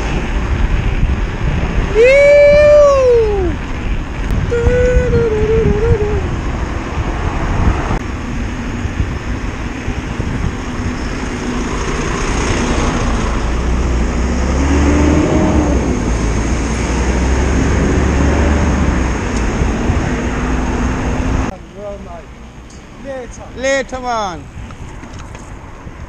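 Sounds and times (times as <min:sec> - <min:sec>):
wind rumbling on microphone: 0:00.0 - 0:21.5, 0:22.9 - 0:26.0
road traffic: 0:00.0 - 0:26.0.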